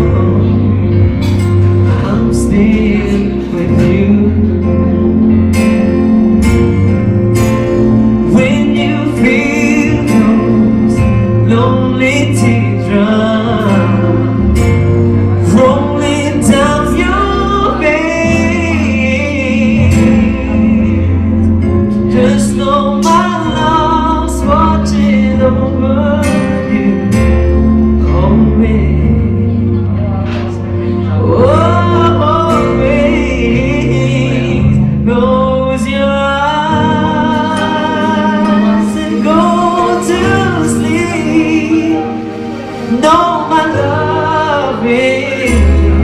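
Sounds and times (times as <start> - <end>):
man singing into microphone: 0.0 - 6.1, 6.9 - 46.0
backing music with bass and beat: 0.0 - 46.0.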